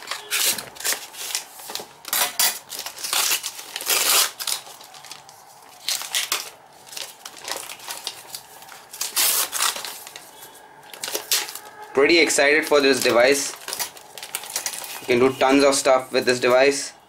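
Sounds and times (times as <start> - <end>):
paper rustling and ripping: 0.0 - 15.4.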